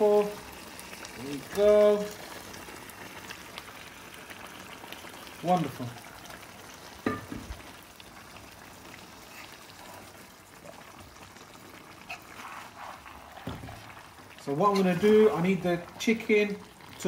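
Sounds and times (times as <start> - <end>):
curry sauce bubbling and sizzling: 0.0 - 17.0.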